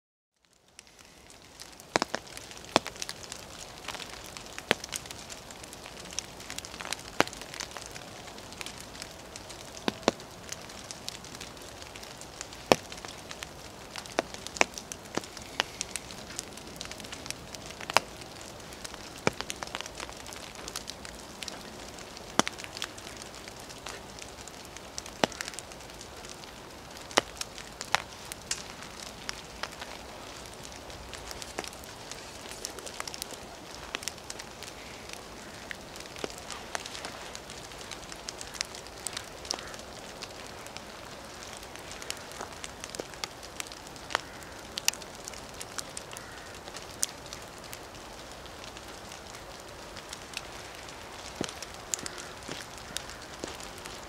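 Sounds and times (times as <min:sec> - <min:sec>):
light rain hiss: 0:00.4 - 0:54.0
raindrops ticking near microphone: 0:00.4 - 0:54.0.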